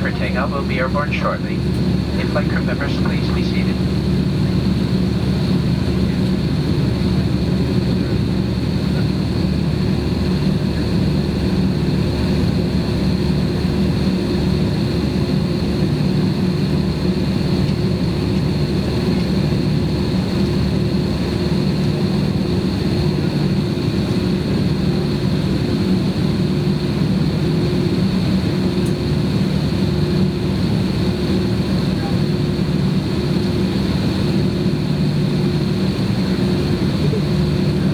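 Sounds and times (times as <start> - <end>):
jet engines idling in cabin: 0.0 - 37.9.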